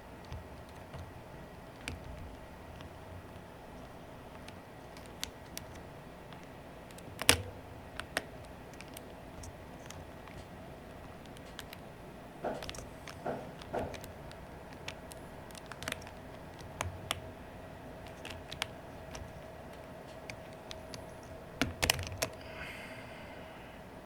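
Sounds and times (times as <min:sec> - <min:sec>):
plastic keycaps clicking: 0:00.0 - 0:22.5
faint steady hum: 0:00.0 - 0:24.0.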